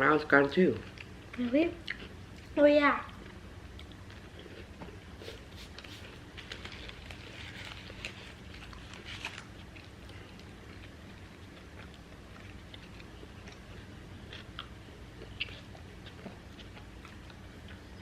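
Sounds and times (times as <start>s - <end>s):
low steady hum: 0.0s - 18.0s
people chewing food: 0.4s - 18.0s.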